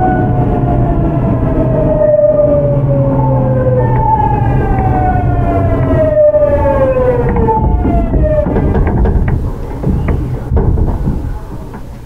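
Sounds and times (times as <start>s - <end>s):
electric train inverter whining: 0.0s - 12.0s
low train rumble: 0.0s - 12.0s.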